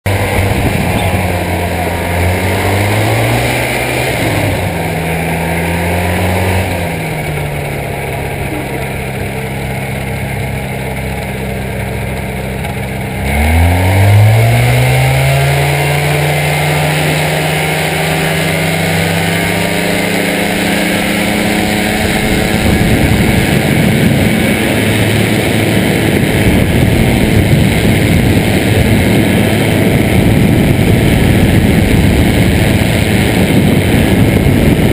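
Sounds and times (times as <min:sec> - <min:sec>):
ultralight aircraft engine: 0:00.0 - 0:34.9
wind noise: 0:00.1 - 0:11.4, 0:13.2 - 0:34.9.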